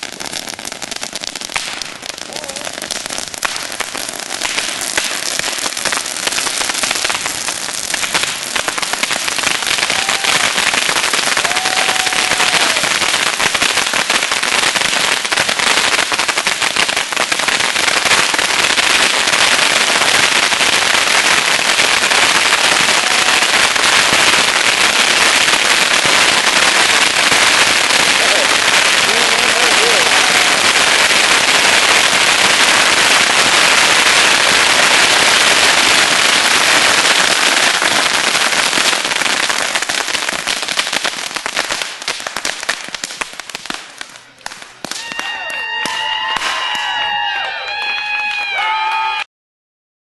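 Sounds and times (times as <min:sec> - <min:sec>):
bottle rockets crackling: 0:00.0 - 0:45.1.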